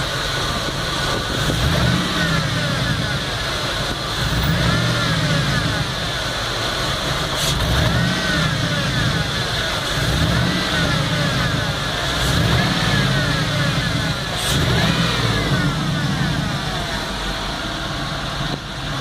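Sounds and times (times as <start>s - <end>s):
engine idling with surging revs: 0.0s - 19.0s.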